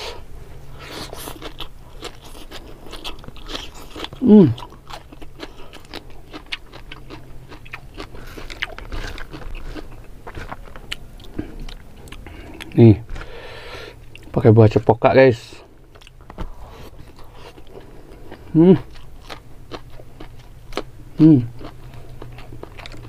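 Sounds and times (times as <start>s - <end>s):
crunching and chewing greens: 0.0s - 23.0s.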